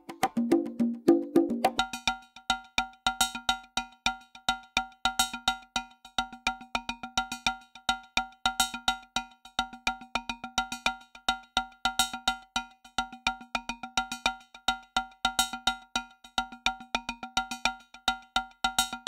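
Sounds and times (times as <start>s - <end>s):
percussion music: 0.0s - 19.0s.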